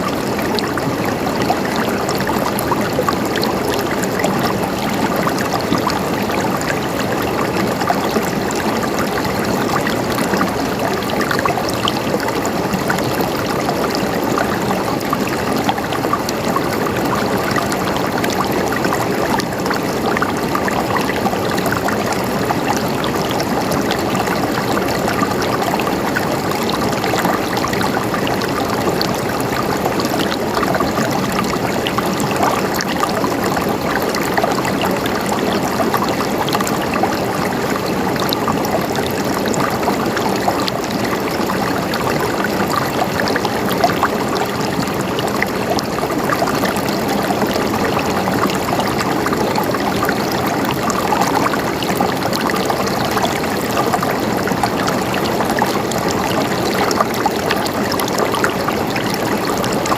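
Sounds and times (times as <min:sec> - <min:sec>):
running water gurgling: 0:00.0 - 0:59.9.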